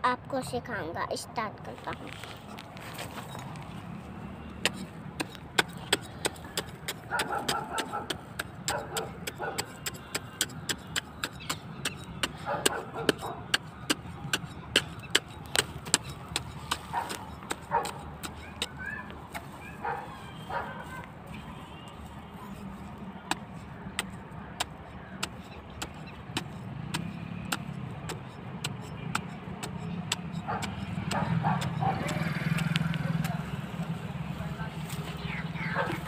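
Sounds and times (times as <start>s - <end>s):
hoe striking dry soil: 2.5s - 19.6s, 21.6s - 33.9s.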